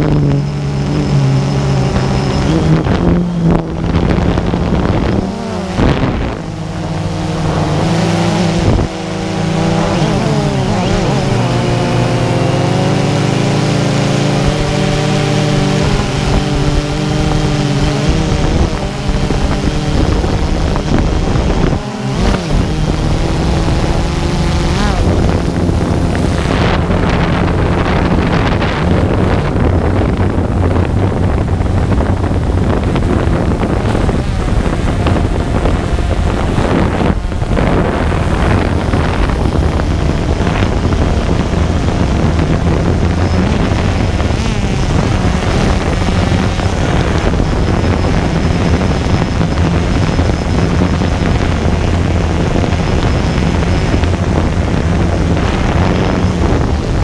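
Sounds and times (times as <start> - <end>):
drone propellers whirring: 0.0 - 57.0
wind rushing over microphone: 0.0 - 57.0.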